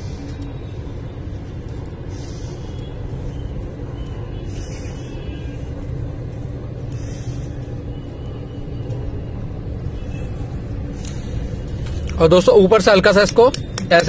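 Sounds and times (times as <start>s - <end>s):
faint even hum: 0.0s - 12.2s
steady low rumble: 0.0s - 14.0s.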